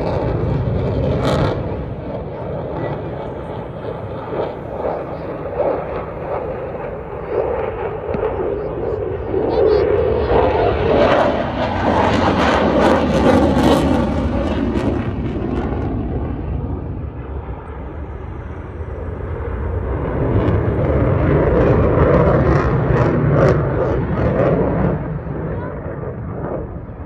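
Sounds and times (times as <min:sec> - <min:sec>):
fighter jet engine roar: 0:00.0 - 0:27.0.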